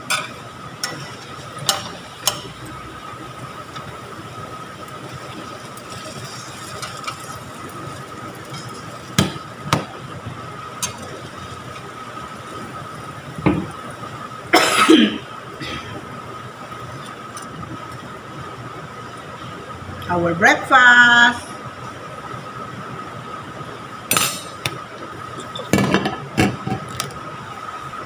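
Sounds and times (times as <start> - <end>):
frying oil sizzling: 0.0 - 28.0.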